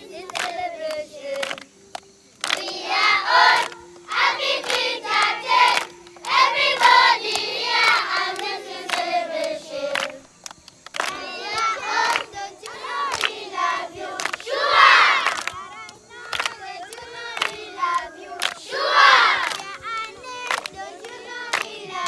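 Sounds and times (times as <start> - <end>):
children singing: 0.0 - 1.7, 2.5 - 10.3, 11.0 - 22.0
hand claps: 0.0 - 22.0.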